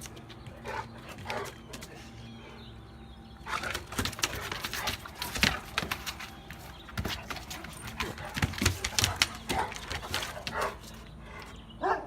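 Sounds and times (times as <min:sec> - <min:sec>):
dogs scuffling paws: 0:00.0 - 0:02.4, 0:03.4 - 0:11.6.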